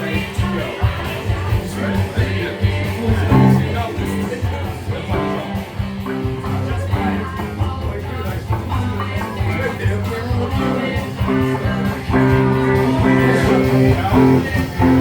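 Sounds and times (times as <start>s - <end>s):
bass line: 0.0s - 15.0s
drum hits: 0.0s - 15.0s
electric guitar: 0.0s - 15.0s.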